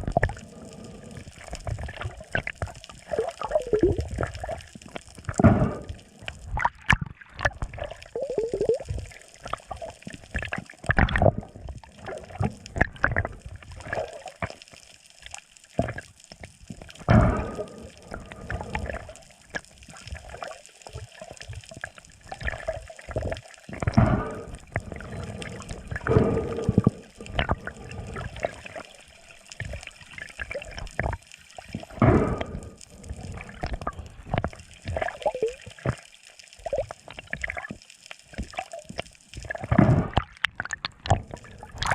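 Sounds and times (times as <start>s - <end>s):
sea water sloshing and gurgling: 0.0s - 41.9s.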